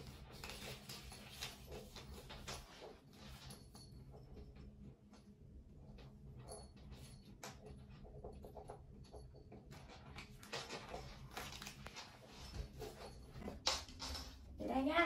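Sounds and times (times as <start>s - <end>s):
cats scuffling on wooden floor: 0.0s - 5.2s, 5.9s - 14.6s.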